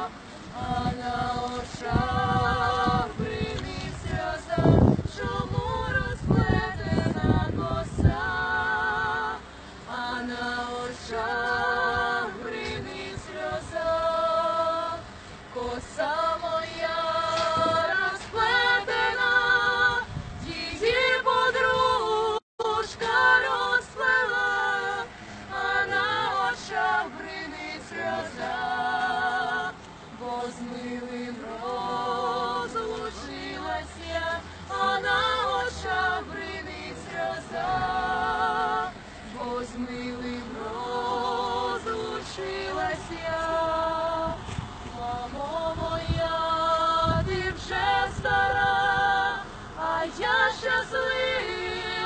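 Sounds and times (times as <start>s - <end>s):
women singing a cappella: 0.0s - 52.0s.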